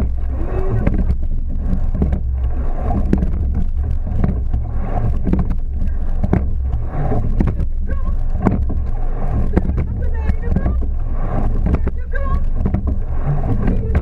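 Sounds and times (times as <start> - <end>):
oars clunking in oarlocks: 0.0 - 14.0
rumble of wind and water: 0.0 - 14.0
water swells with strokes: 0.0 - 14.0.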